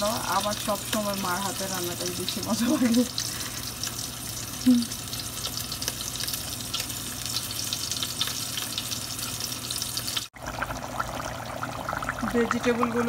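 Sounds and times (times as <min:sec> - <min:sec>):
curry bubbling and sizzling: 0:00.0 - 0:13.0.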